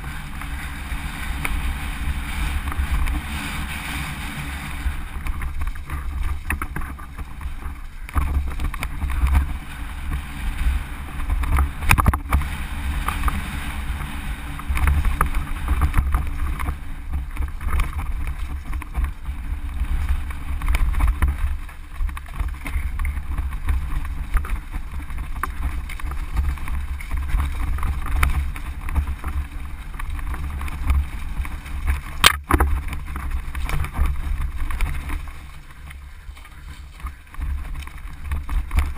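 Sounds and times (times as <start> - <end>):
bike rattling over stones: 0.0 - 38.9
wind buffeting microphone: 0.0 - 38.9.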